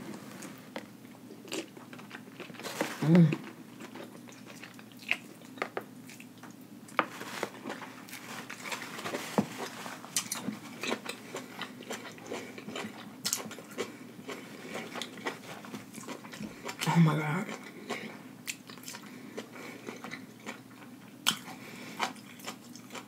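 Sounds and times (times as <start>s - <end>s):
close chewing: 1.4s - 6.5s, 7.5s - 23.0s.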